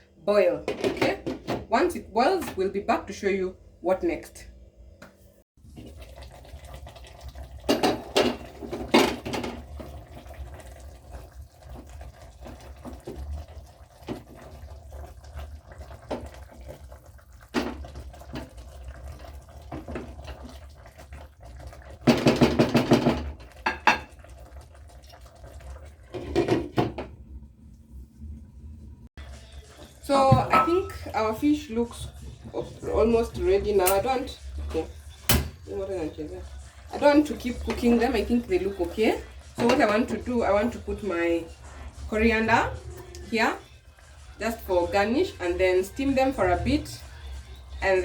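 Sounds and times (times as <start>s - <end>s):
stew bubbling in a pot: 5.6s - 28.5s, 29.1s - 48.0s.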